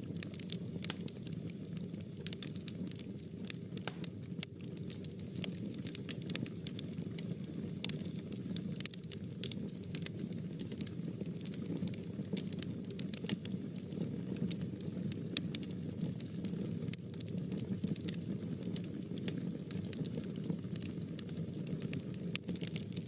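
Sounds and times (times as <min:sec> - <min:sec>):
fire crackles and pops: 0:00.0 - 0:23.0
fire rushing in fireplace: 0:00.0 - 0:23.0.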